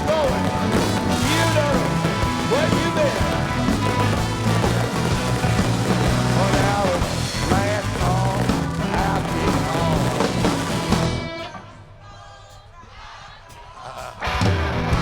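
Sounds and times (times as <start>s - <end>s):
live blues-rock band: 0.0s - 11.6s, 14.2s - 15.0s.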